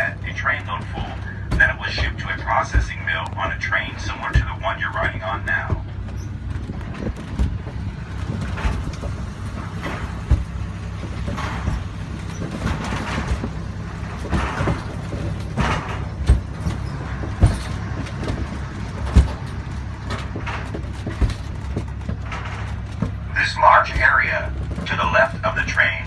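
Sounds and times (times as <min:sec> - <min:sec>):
mine train rumbling on track: 0:00.0 - 0:26.0
sharp knocks and clanks: 0:00.0 - 0:26.0.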